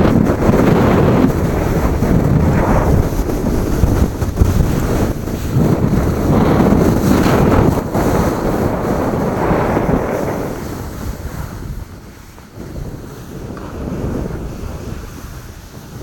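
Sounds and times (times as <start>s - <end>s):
wind buffeting microphone: 0.0s - 16.0s
skis hissing over snow: 0.9s - 16.0s.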